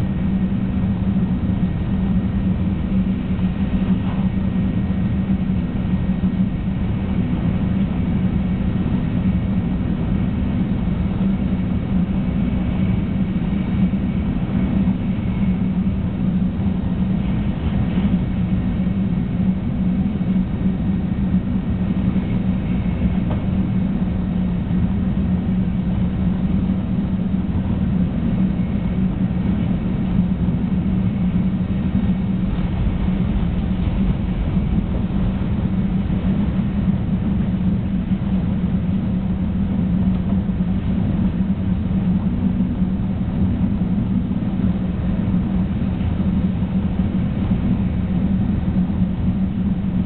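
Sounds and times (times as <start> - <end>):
train cabin hum and rumble: 0.0 - 50.0.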